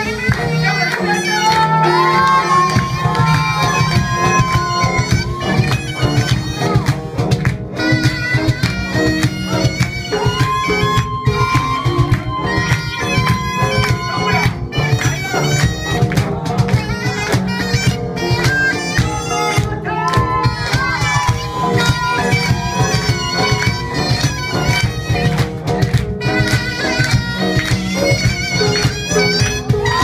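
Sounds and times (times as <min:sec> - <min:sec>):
fast drum beat: 0:00.0 - 0:30.0
wind instrument melody: 0:00.0 - 0:30.0.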